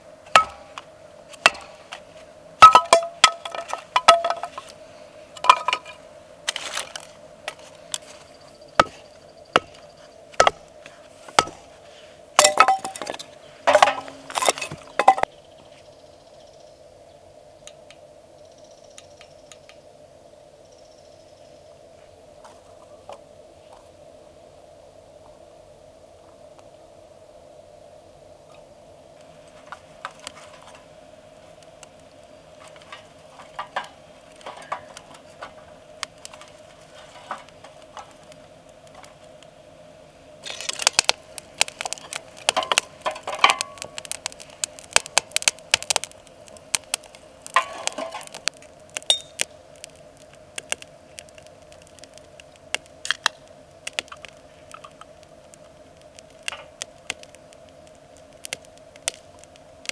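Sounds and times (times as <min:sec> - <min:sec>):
firewood crackling and popping: 0:00.0 - 0:15.4, 0:17.6 - 0:18.1, 0:18.9 - 0:19.9, 0:28.2 - 0:59.9
faint steady hum: 0:00.0 - 0:59.9.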